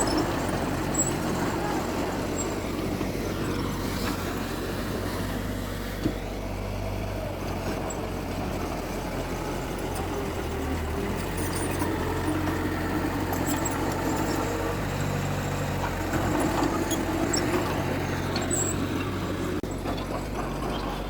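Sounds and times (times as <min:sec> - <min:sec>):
heavy machinery diesel engine running: 0:00.0 - 0:21.0.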